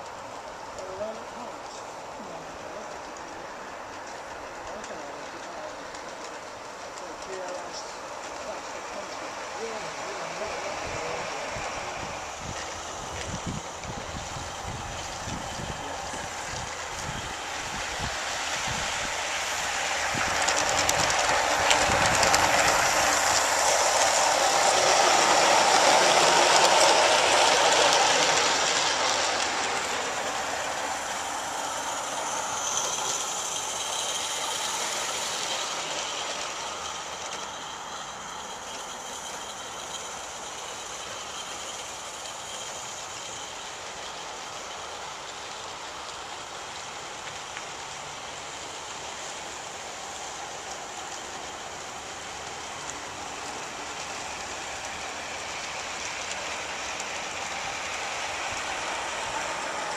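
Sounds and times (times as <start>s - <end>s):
steam hissing: 0.0s - 59.9s
toy steam train wheels on track: 0.0s - 59.9s.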